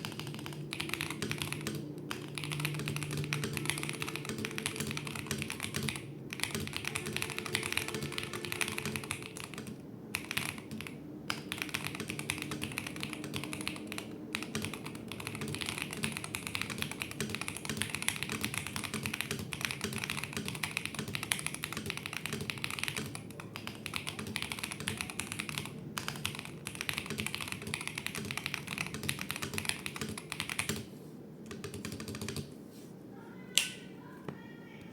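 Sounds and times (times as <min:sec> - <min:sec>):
mechanical keyboard typing: 0:00.0 - 0:32.5.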